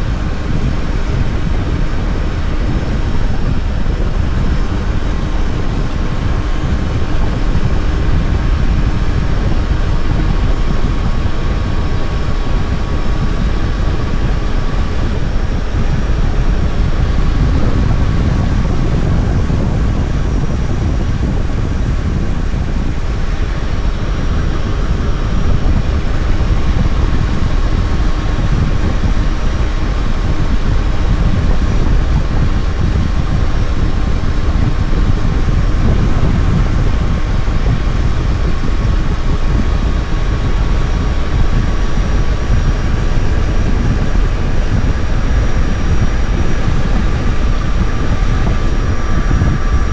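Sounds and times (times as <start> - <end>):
motorcycle engine cruising: 0.0 - 49.9
wind rumble on microphone: 0.0 - 49.9.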